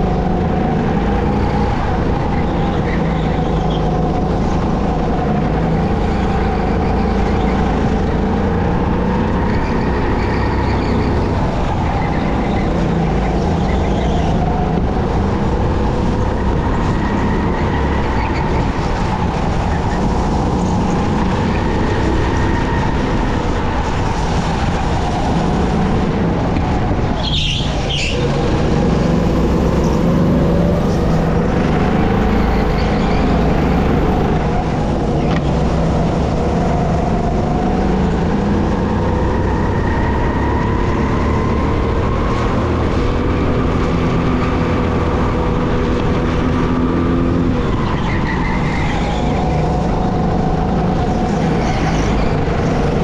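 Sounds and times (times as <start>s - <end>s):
go-kart engine revving: 0.0s - 53.0s.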